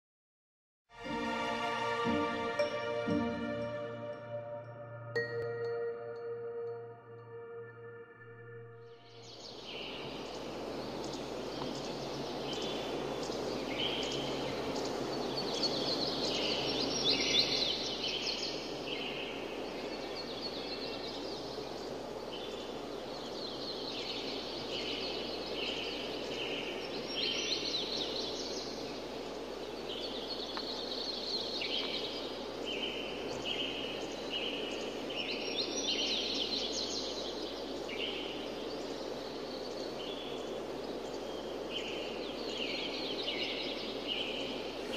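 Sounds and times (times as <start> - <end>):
steady background hiss: 0.9 - 44.9.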